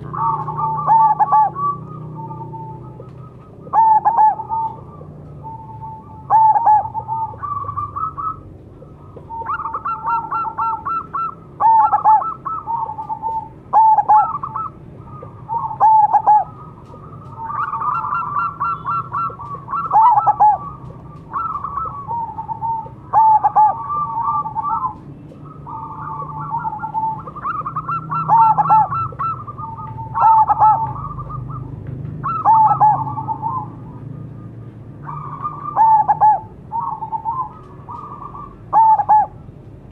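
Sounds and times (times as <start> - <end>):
dove cooing: 0.0 - 39.5.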